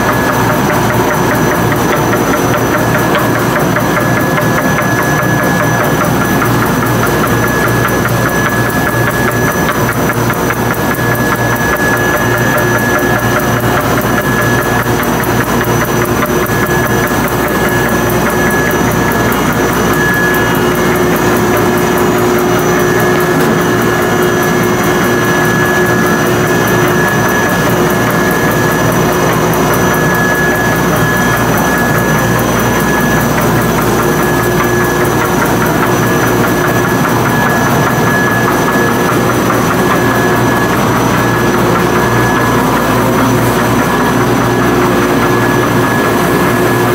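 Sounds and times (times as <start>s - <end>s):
high machine whine: 0.0s - 46.9s
printing press mechanical drone: 0.0s - 46.9s.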